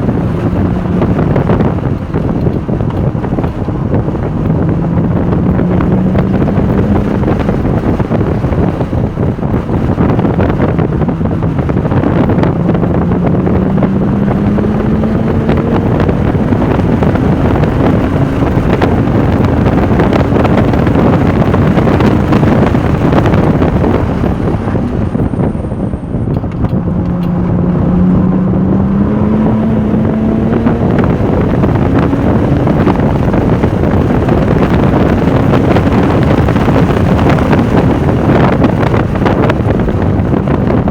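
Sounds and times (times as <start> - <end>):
car engine accelerating: 0.0 - 40.9
wind noise on microphone: 0.0 - 40.9.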